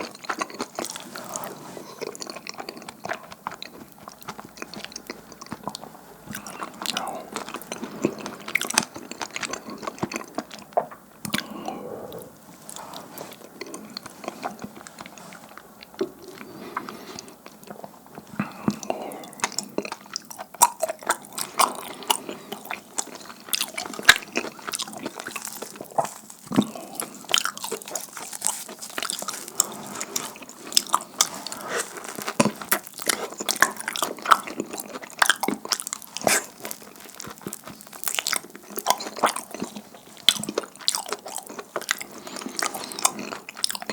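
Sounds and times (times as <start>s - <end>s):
chewing and wet smacking: 0.0s - 43.9s.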